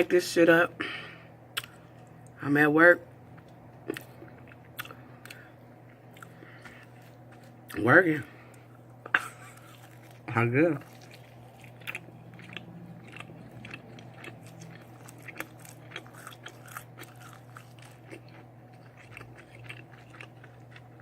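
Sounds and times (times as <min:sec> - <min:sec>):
person chewing meat: 0:00.9 - 0:02.3, 0:03.2 - 0:21.0.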